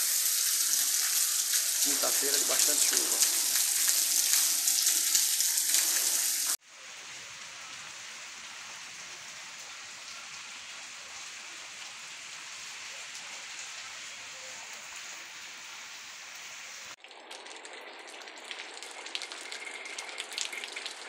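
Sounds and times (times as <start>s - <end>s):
heavy rain hissing: 0.0s - 17.0s
steady rain: 0.0s - 21.0s.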